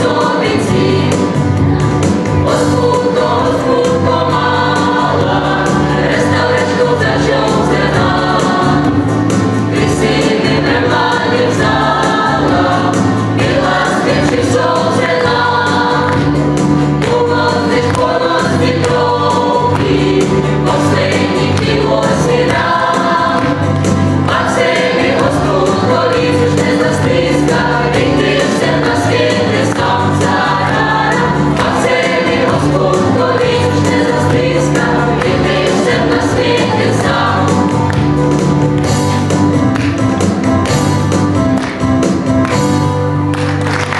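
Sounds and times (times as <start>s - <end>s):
mixed choir singing: 0.0s - 40.5s.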